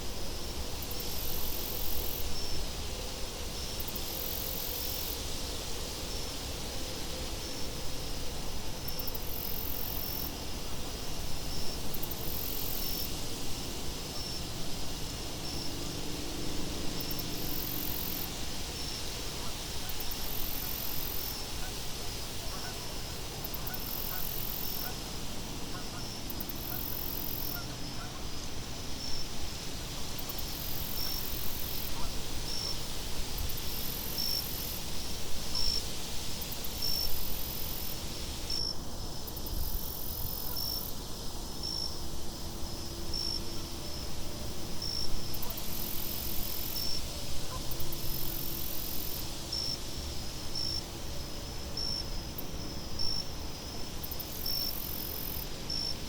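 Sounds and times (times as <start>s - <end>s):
crickets chirping: 0.0s - 56.0s
hissing insect trill: 0.0s - 56.0s.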